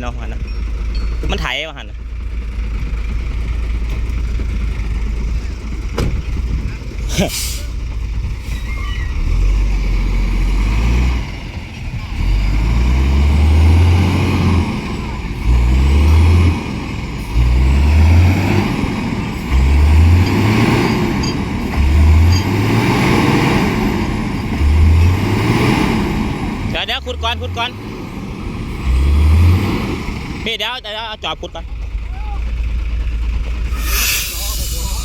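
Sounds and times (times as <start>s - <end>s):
tractor diesel engine revving: 0.0s - 35.0s.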